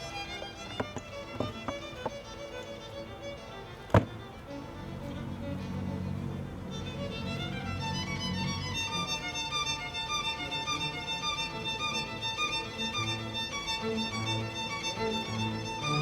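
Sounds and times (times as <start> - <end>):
violin melody: 0.0 - 16.0.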